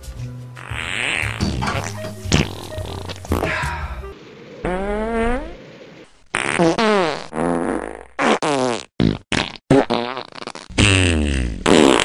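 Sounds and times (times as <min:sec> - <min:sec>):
fart sounds: 0:00.6 - 0:03.5, 0:04.4 - 0:12.0.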